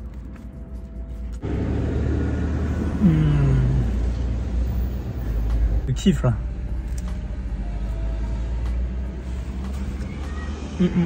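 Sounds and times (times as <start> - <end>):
truck driving past: 1.4 - 11.0.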